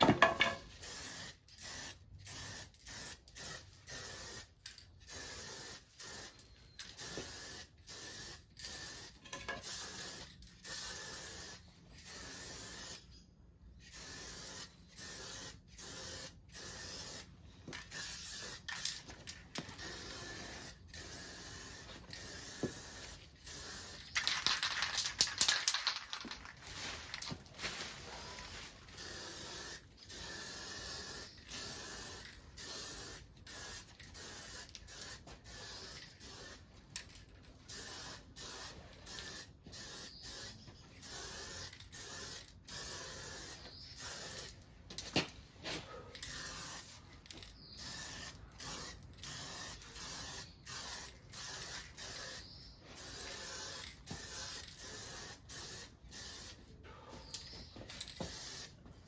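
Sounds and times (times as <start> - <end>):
spray paint hissing: 0.0 - 13.2, 13.8 - 44.6, 46.2 - 56.6, 57.3 - 58.8.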